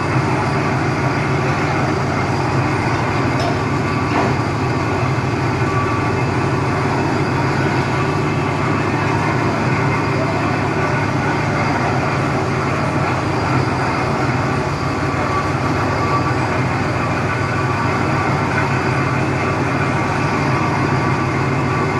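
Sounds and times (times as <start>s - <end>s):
heavy diesel machinery running: 0.0s - 21.9s.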